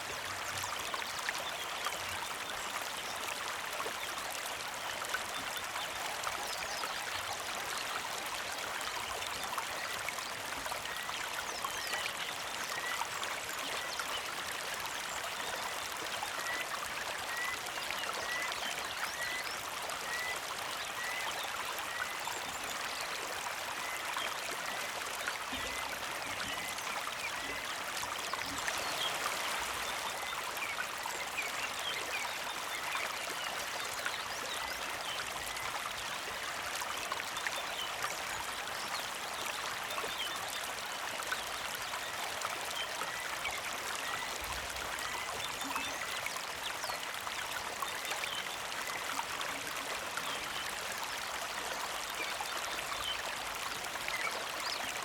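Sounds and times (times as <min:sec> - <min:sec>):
creek trickling: 0:00.0 - 0:55.0.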